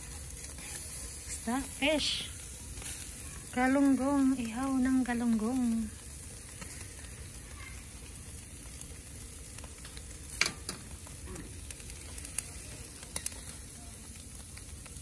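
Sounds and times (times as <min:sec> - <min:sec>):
fish sizzling on grill: 0:00.0 - 0:15.0.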